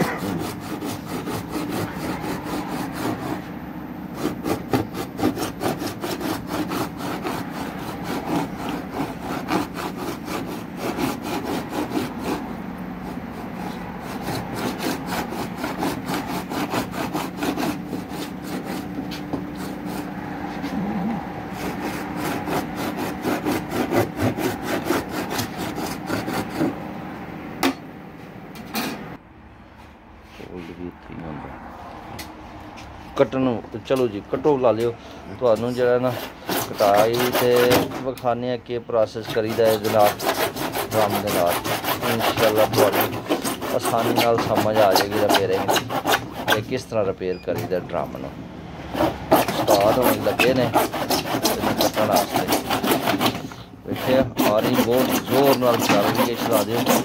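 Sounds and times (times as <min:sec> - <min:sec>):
hacksaw sawing through plastic: 0:00.0 - 0:20.9, 0:21.5 - 0:26.8, 0:34.7 - 0:47.0, 0:48.9 - 0:57.0.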